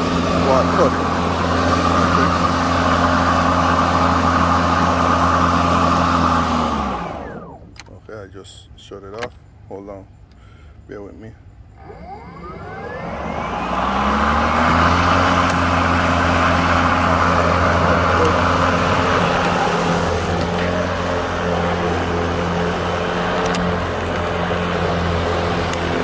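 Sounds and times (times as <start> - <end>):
lawnmower motor humming: 0.0 - 8.0, 11.7 - 26.0.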